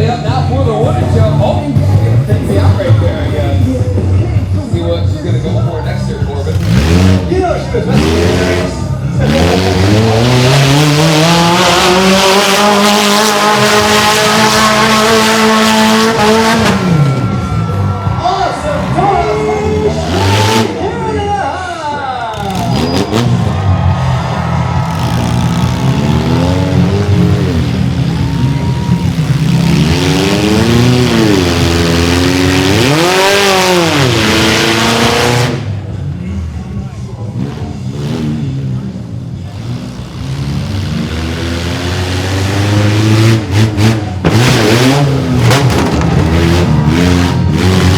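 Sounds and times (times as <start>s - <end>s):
small truck engine revving: 6.1s - 21.0s, 22.3s - 36.7s, 37.3s - 47.9s.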